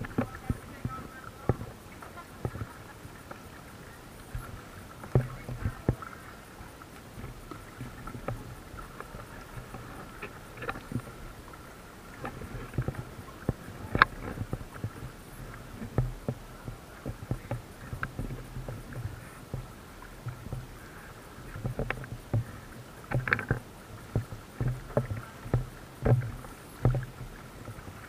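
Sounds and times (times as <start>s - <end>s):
paddle blades splashing: 0.0s - 28.0s.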